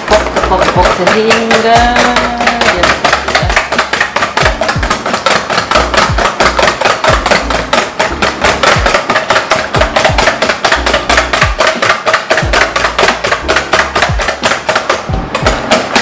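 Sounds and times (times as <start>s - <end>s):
utensil knocking against bowl: 0.0s - 16.0s
whisk beating in a bowl: 0.0s - 16.0s.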